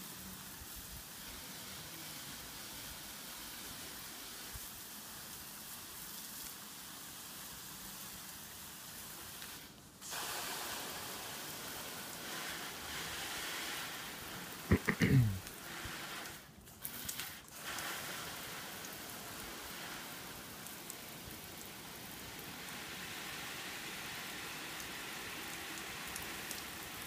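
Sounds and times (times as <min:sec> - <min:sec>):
water spray hissing on a wall: 0:00.0 - 0:27.0
water spray on corrugated roof: 0:00.0 - 0:27.0.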